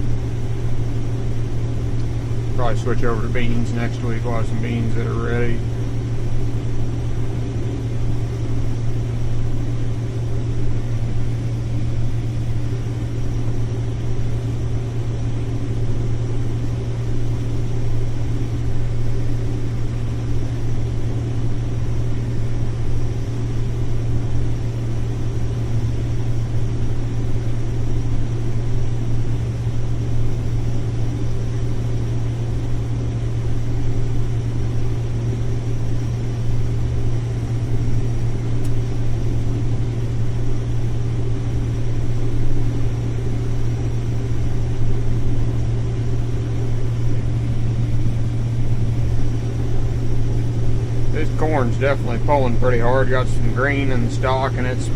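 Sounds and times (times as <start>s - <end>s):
combine harvester droning: 0.0s - 54.9s.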